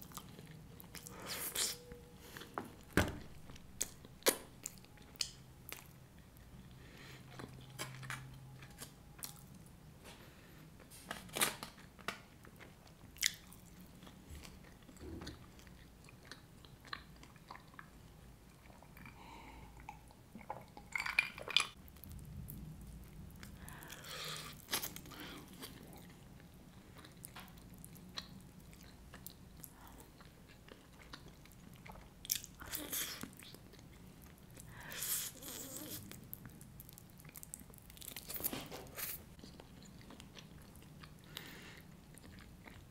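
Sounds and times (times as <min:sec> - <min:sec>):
chewing and crunching food: 0:00.0 - 0:42.9.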